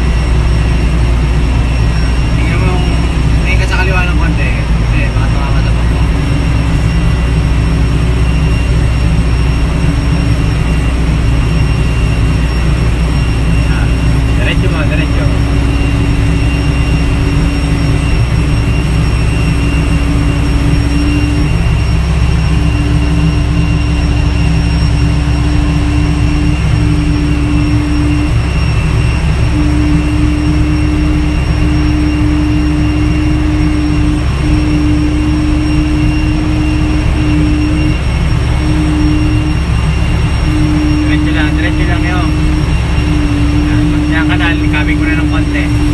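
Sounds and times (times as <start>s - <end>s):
intermittent hum: 0.0s - 45.9s
steady high whine: 0.0s - 45.9s
tractor engine running loud: 0.0s - 45.9s.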